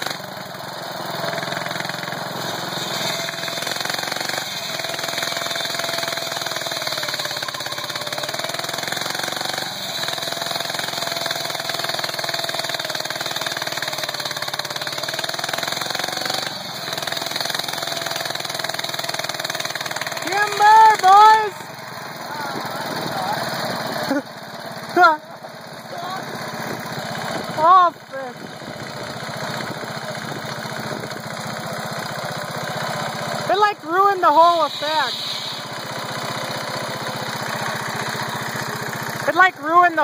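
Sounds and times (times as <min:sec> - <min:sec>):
circular blade cutting tree trunk: 0:00.0 - 0:24.3, 0:26.6 - 0:40.0
saw engine running: 0:00.0 - 0:40.0.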